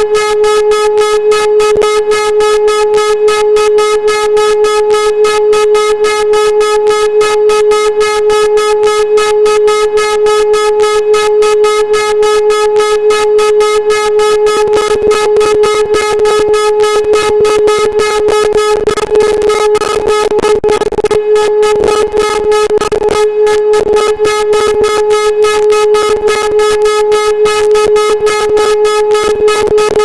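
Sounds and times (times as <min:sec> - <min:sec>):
siren steady fluttering tone: 0:00.0 - 0:30.0.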